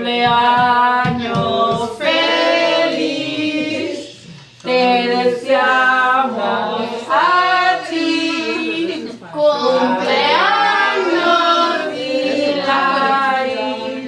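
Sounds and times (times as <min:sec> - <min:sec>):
group singing a cappella: 0:00.0 - 0:14.0.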